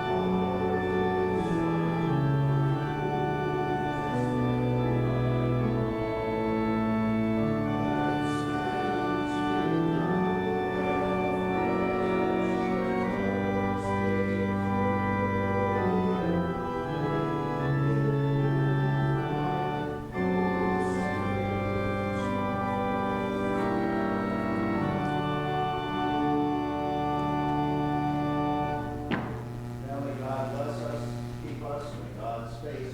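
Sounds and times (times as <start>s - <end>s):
church organ chords: 0.0s - 32.9s.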